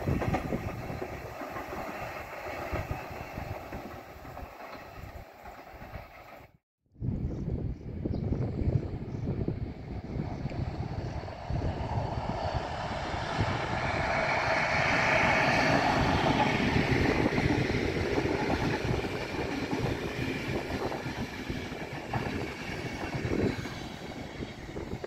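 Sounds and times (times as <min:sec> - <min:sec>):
train passing: 0:00.0 - 0:06.6, 0:08.5 - 0:25.0.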